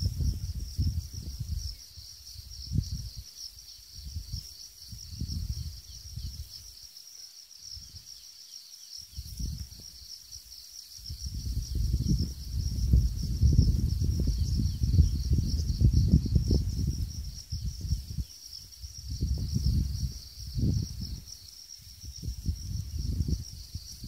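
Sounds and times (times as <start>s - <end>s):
wind buffeting microphone: 0.0s - 6.8s, 9.1s - 10.1s, 10.9s - 24.0s
insects chirping: 0.0s - 24.0s.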